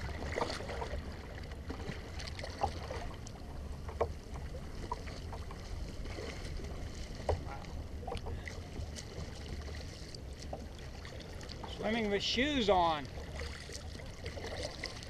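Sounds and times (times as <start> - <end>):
water splashing around a kayak: 0.0 - 15.0.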